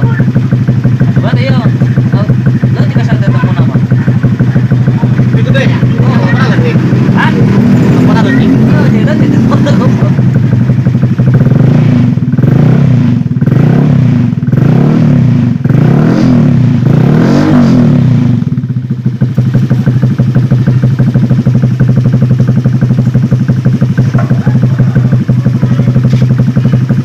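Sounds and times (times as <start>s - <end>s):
scooter engine revving and idling: 0.0s - 27.0s.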